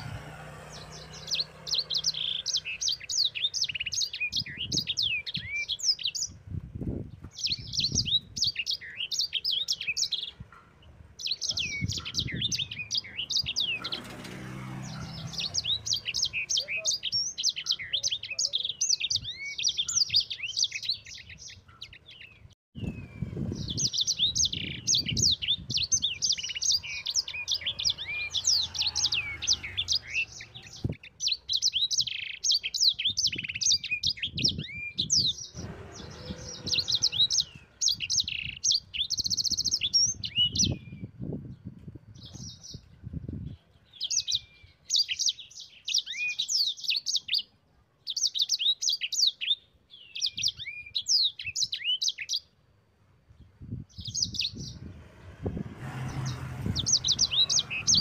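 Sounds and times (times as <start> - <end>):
canary singing: 0.0 - 6.5, 7.2 - 41.2, 43.5 - 52.7, 56.0 - 58.0.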